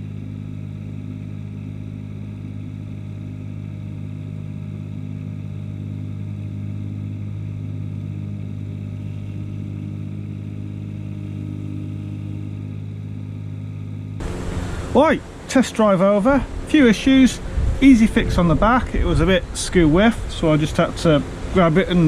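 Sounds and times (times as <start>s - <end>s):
ride-on mower engine running: 0.0s - 22.0s.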